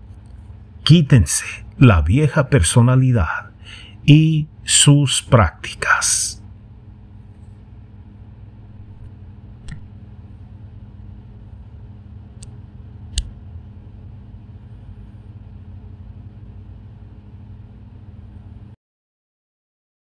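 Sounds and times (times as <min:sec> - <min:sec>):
low background hum: 0:00.0 - 0:18.8.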